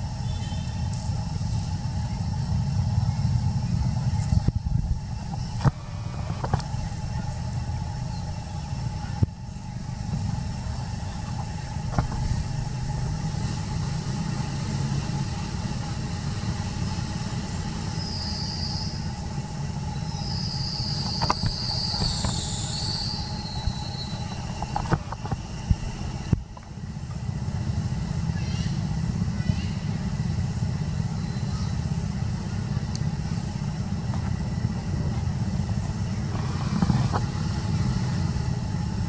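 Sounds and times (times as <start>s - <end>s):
low rumble of motor traffic: 0.0s - 39.0s.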